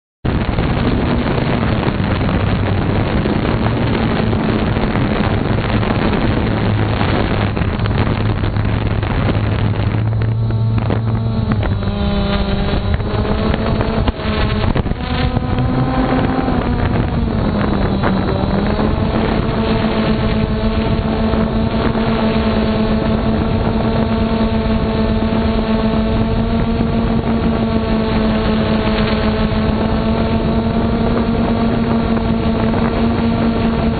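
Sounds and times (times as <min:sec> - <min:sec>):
drone buzzing whine: 0:00.2 - 0:33.9
rushing wind: 0:00.2 - 0:33.9.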